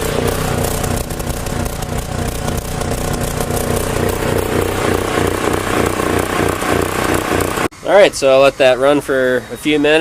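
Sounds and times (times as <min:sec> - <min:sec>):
generator engine running rough: 0:00.0 - 0:09.6.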